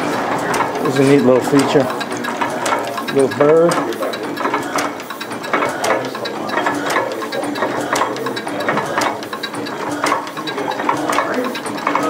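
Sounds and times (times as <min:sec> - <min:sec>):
stationary engine clattering: 0:00.0 - 0:12.0.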